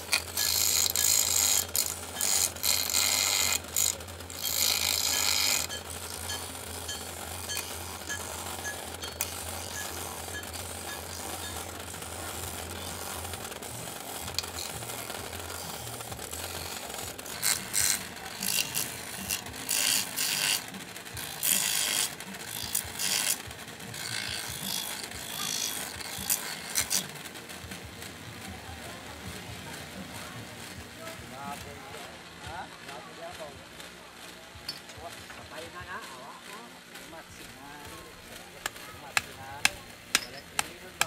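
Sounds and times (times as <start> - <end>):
blade rasping on buffing wheel: 0.0 - 33.0, 33.6 - 41.0
bench grinder humming: 0.0 - 41.0.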